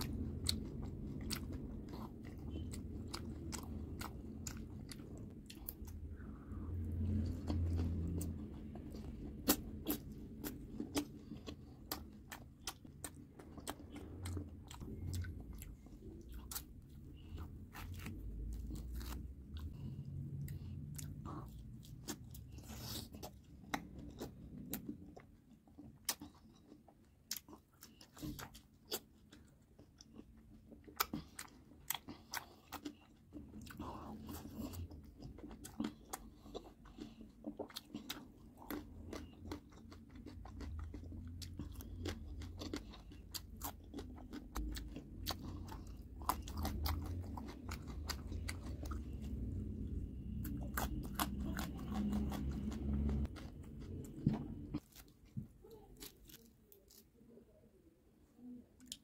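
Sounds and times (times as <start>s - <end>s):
person chewing orange: 0.0s - 57.2s.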